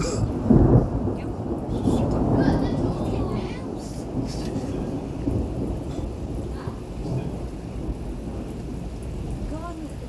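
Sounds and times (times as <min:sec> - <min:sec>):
heavy rain: 0:00.0 - 0:10.0
thunder rumbling: 0:00.0 - 0:10.0.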